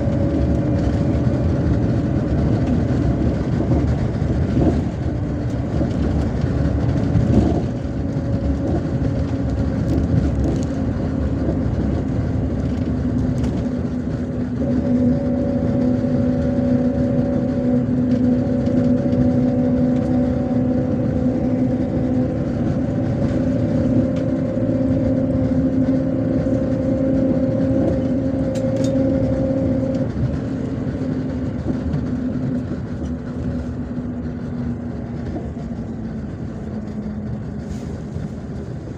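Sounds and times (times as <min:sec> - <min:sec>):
bus engine drone: 0:00.0 - 0:38.9
road noise rumbling: 0:00.0 - 0:38.9.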